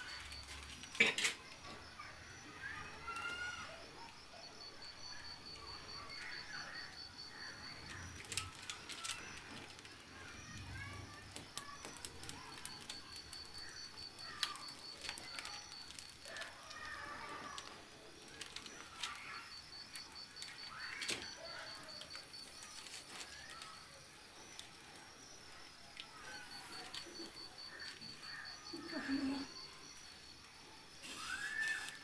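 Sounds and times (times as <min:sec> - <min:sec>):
fire crackling: 0:00.0 - 0:32.0.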